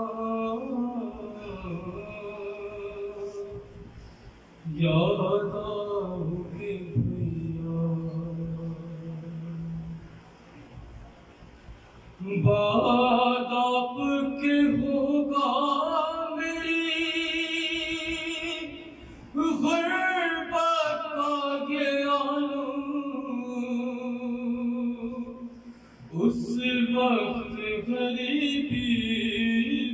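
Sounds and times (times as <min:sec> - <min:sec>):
man singing unaccompanied: 0:00.0 - 0:03.7, 0:04.6 - 0:10.1, 0:12.2 - 0:29.9.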